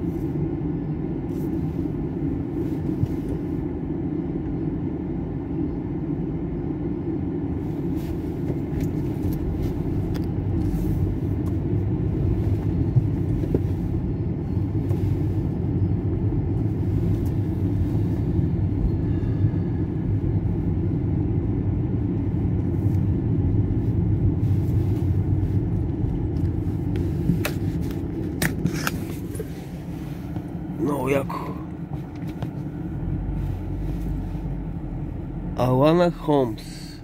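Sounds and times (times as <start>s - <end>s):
car driving rumble: 0.0s - 37.0s.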